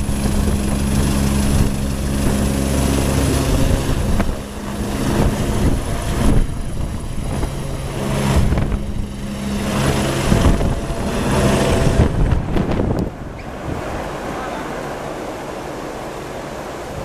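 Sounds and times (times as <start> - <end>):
helicopter engine drone: 0.0 - 17.0
helicopter rotor beat: 0.0 - 17.0.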